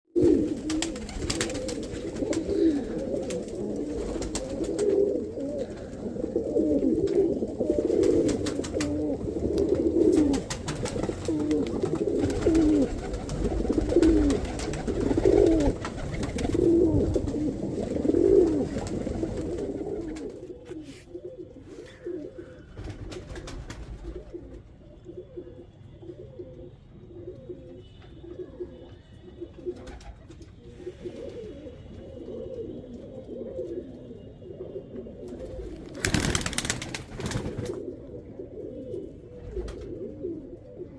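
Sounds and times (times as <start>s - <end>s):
pigeon cooing: 0.2s - 40.9s.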